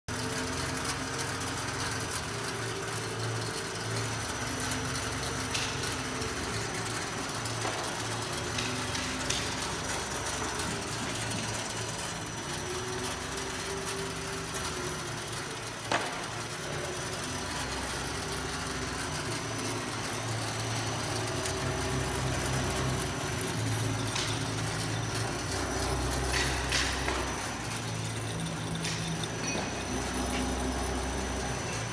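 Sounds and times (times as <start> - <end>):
sharp machine clicks: 0.1 - 31.9
winding machine humming: 0.1 - 31.9.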